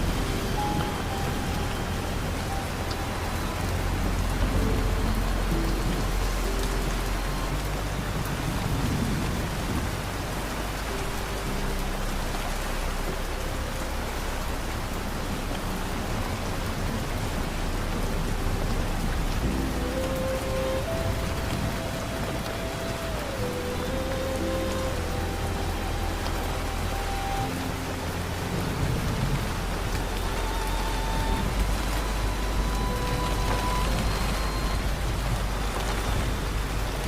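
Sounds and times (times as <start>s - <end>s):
low rumble of thunder: 0.0s - 37.0s
sparse slow music notes: 0.0s - 37.0s
steady rain falling: 0.0s - 37.0s.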